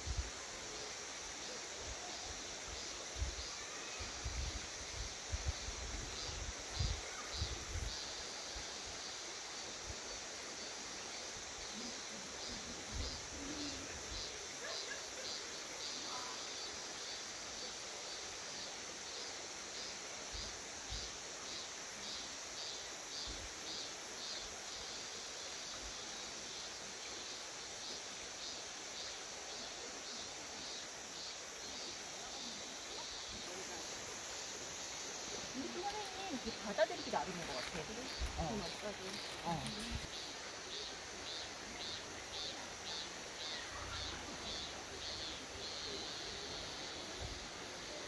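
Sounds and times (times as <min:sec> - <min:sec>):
cicadas pulsing chorus: 0:00.0 - 0:48.0.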